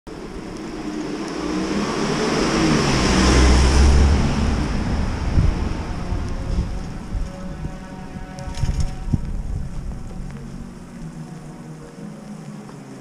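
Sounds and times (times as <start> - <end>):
car passing on wet street: 0.1 - 13.0.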